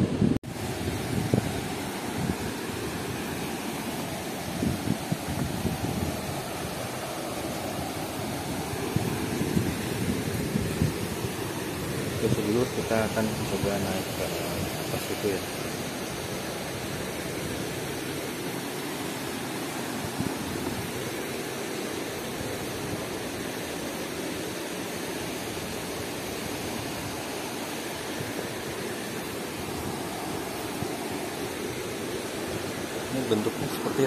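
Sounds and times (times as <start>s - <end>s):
river water rushing: 0.1s - 34.0s.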